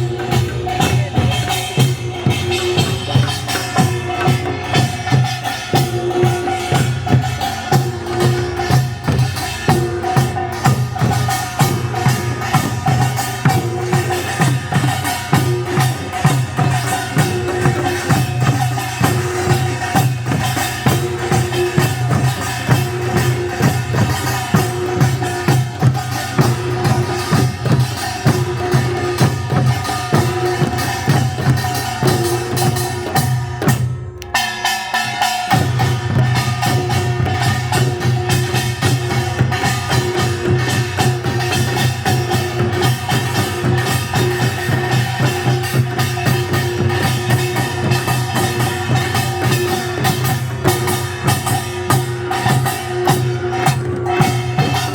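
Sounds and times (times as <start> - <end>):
folk percussion fast rhythm: 0.0 - 54.9.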